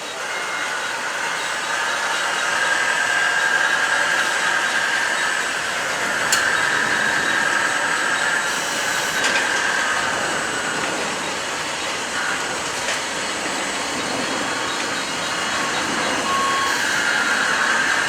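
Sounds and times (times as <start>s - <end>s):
electric drive whine: 0.0s - 18.0s.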